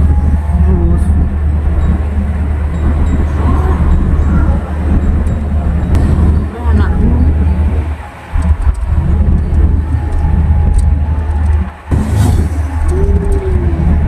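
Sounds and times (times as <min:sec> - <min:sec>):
faint whine bending in pitch: 0:00.0 - 0:14.0
vehicle rumble: 0:00.0 - 0:14.0
wind buffeting microphone: 0:00.0 - 0:14.0.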